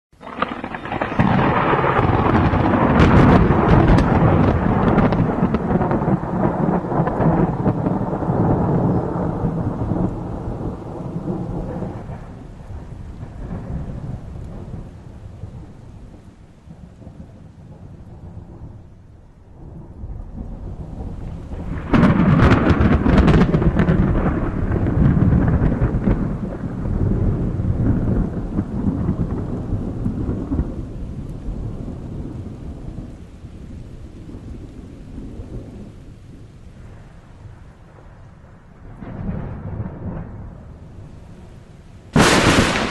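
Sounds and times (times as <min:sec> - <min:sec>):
rain: 0:00.1 - 0:42.9
thunder rumbling: 0:00.1 - 0:42.9.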